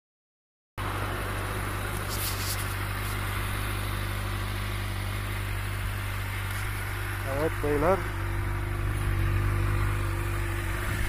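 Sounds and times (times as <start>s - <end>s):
motorcycle engine idling: 0.8s - 11.0s.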